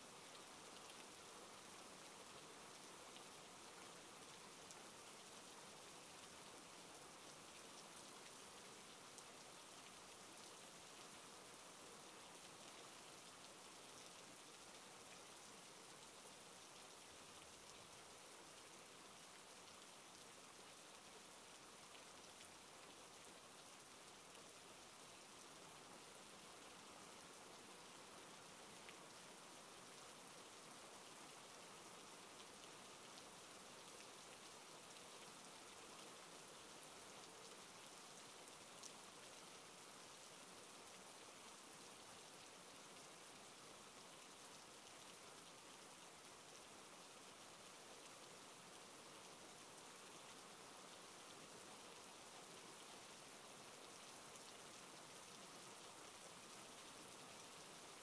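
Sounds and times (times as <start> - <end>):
faint rain hiss: 0.0 - 58.0.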